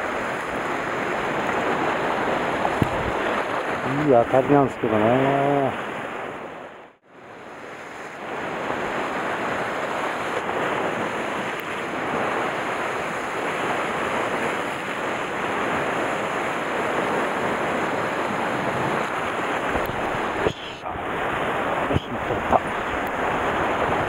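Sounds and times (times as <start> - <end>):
sea waves breaking on rocks: 0.0 - 6.8, 7.4 - 24.0.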